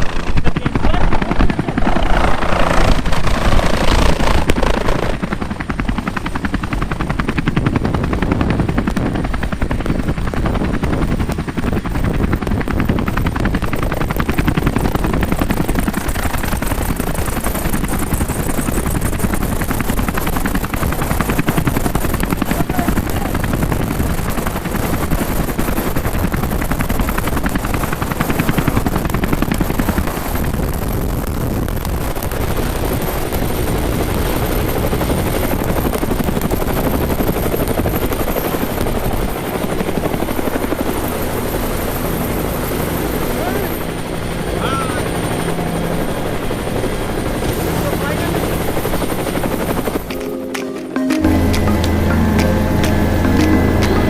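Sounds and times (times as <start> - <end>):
helicopter engine running: 0.0 - 54.0
helicopter rotor chopping: 0.0 - 54.0.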